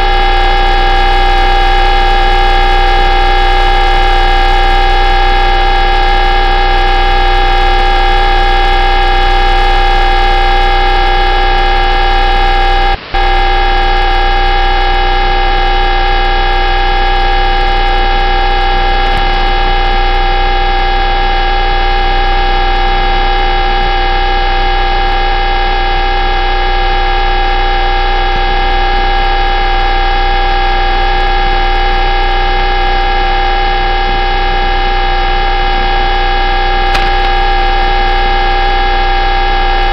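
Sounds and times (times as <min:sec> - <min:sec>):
shortwave radio buzzing hum: 0:00.0 - 0:39.9.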